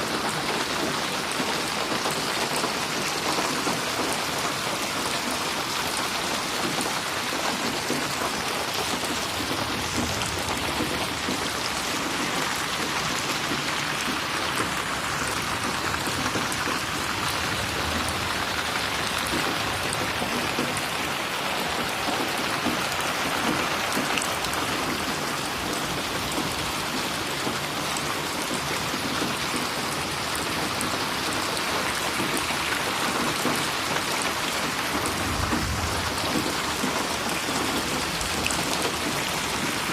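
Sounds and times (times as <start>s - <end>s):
rain falling and splashing: 0.0s - 39.9s.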